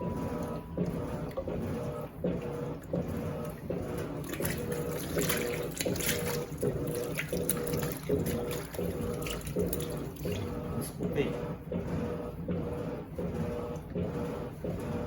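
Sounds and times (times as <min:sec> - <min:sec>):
washing machine motor hum: 0:00.0 - 0:15.0
water sloshing in tub: 0:00.0 - 0:15.0.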